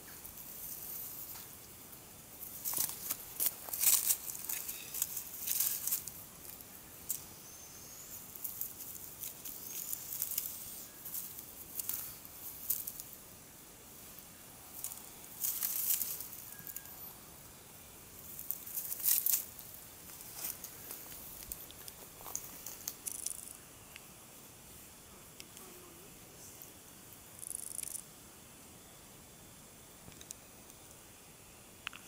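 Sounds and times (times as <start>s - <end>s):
leaves and twigs rustling and crackling: 0.0s - 28.1s.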